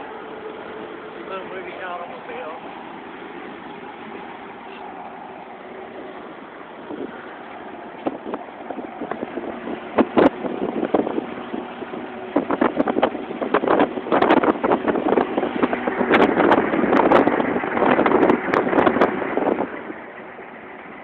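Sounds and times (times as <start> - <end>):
car road and engine noise: 0.0 - 21.0
wind buffeting microphone: 0.0 - 21.0.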